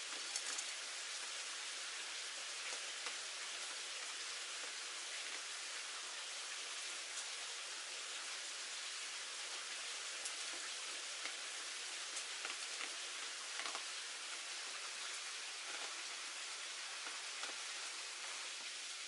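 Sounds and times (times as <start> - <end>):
faint ticks and clicks: 0.0 - 5.9, 6.7 - 7.4, 9.4 - 18.8
light rain hissing: 0.0 - 19.0.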